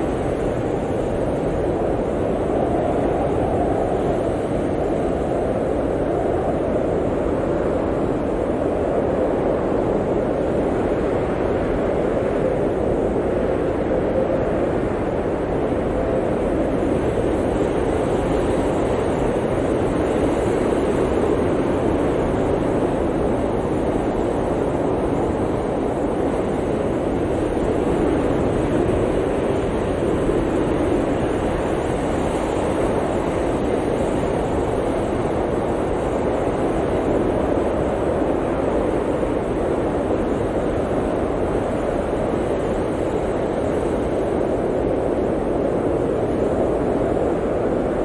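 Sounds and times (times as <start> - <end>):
blizzard wind blowing hard: 0.0 - 48.0.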